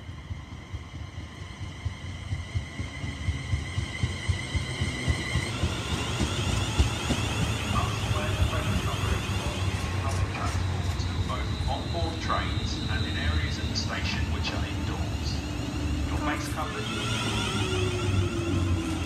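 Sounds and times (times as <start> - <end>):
thin high train whine: 0.0 - 19.0
train wheels rumbling on rail: 0.0 - 19.0.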